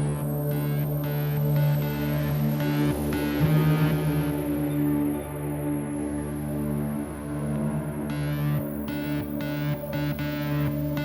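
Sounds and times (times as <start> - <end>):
low synthesizer tones: 0.0 - 5.9, 7.6 - 11.0.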